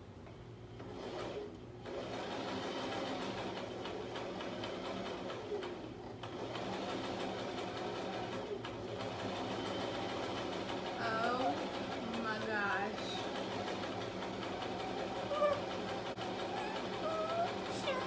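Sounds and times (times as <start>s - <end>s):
sewing machine running: 0.8s - 18.0s.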